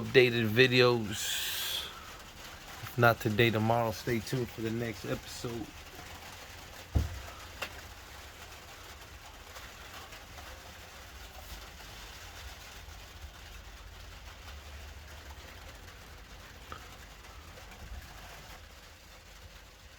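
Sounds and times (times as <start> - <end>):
low background rumble and hiss: 0.0 - 19.9.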